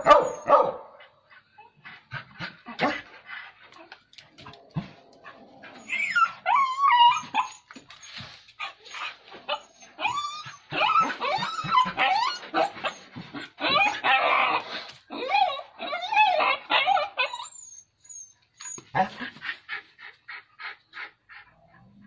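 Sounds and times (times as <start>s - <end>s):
dogs whining and yelping: 0.0s - 22.0s.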